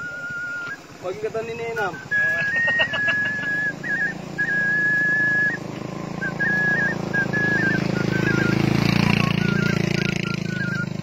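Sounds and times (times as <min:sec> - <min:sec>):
man whistling a melody: 0:00.0 - 0:11.0.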